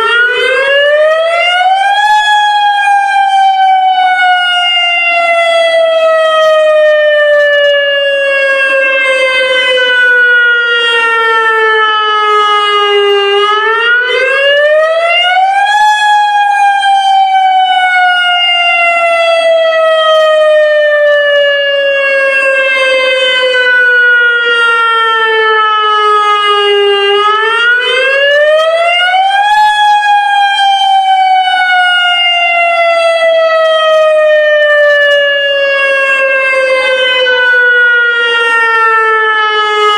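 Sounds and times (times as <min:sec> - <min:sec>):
electronic warning siren wailing: 0:00.0 - 0:39.9.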